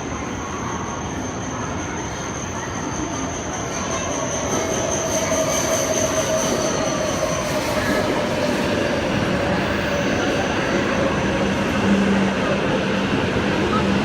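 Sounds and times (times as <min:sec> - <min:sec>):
train rolling rumble: 0:00.0 - 0:14.0
wheels and brakes squealing: 0:00.1 - 0:14.0.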